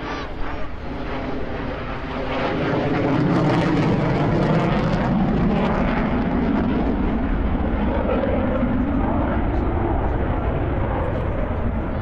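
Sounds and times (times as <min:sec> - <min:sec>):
fighter jets flying overhead: 0:00.0 - 0:12.0.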